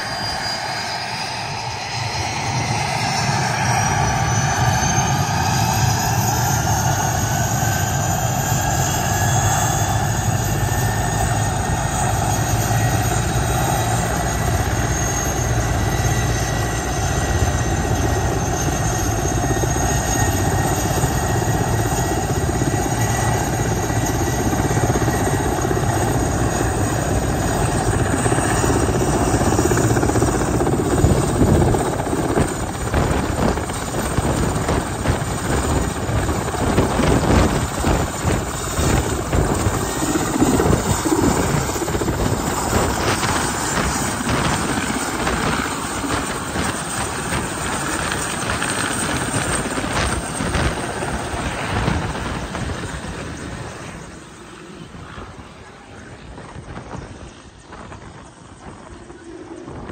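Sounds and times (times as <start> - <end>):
helicopter engines whining: 0.0 - 59.9
rotor rumble: 2.2 - 59.9.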